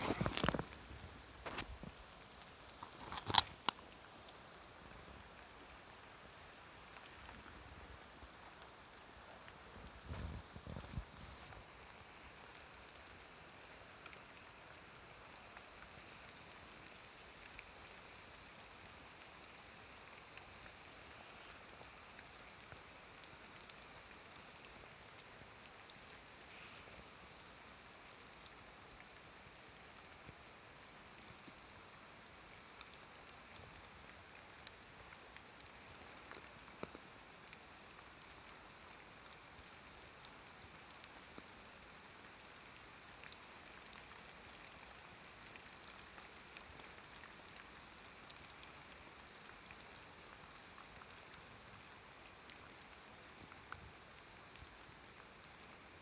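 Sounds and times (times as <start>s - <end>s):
faint outdoor hiss: 0.0s - 56.0s
small ticks: 0.0s - 56.0s.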